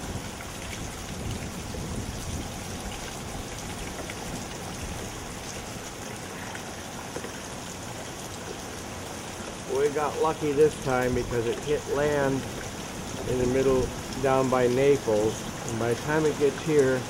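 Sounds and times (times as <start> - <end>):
wind and rain rushing: 0.0 - 17.0.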